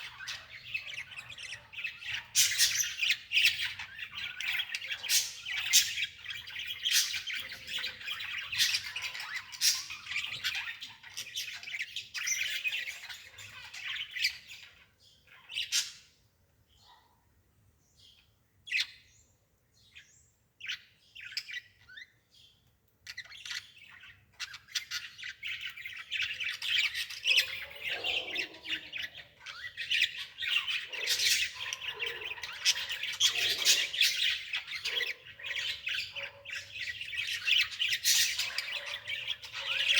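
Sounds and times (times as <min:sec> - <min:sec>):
birds chirping and squawking: 0:00.0 - 0:17.2, 0:18.0 - 0:39.9.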